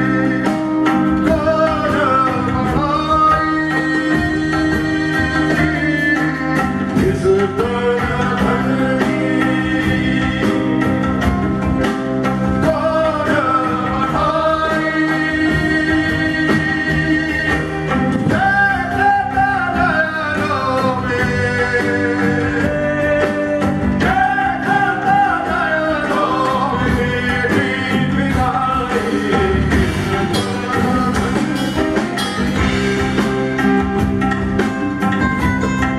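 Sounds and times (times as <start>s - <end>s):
man singing: 0.0s - 35.9s
rock band playing: 0.0s - 35.9s.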